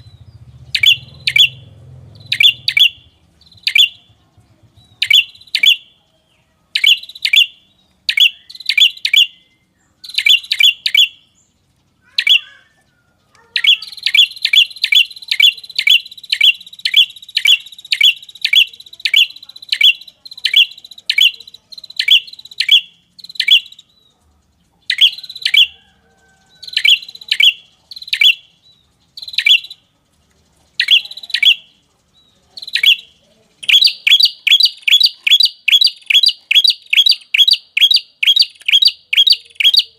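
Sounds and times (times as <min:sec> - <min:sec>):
high bird trill: 0:00.0 - 0:39.9.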